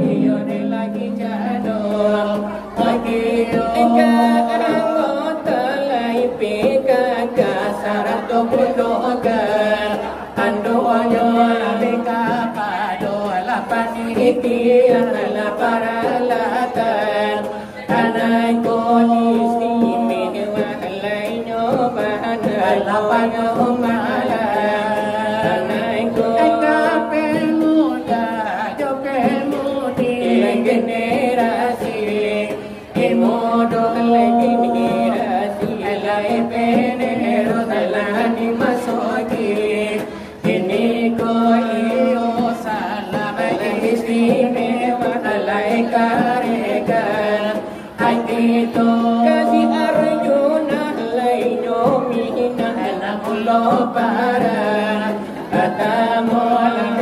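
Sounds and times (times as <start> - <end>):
group singing devotional verses: 0.0 - 57.0.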